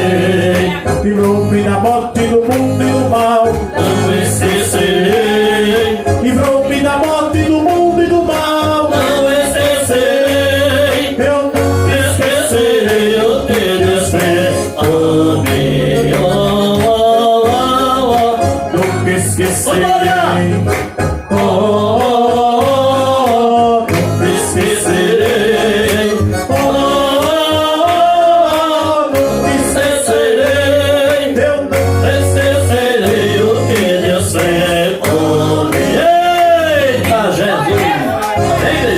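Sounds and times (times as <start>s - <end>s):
electronic keyboard with beat: 0.0s - 38.9s
man singing: 0.0s - 38.9s.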